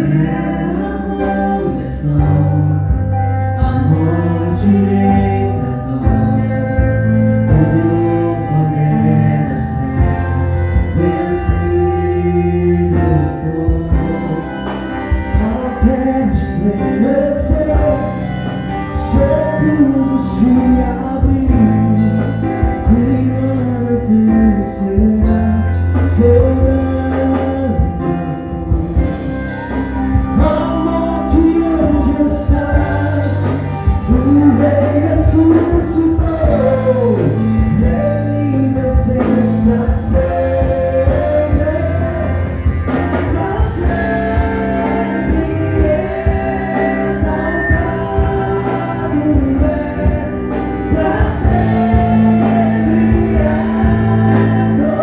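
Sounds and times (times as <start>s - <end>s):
bass: 0.0s - 55.0s
drums: 0.0s - 55.0s
electric guitar: 0.0s - 55.0s
person singing: 0.0s - 55.0s.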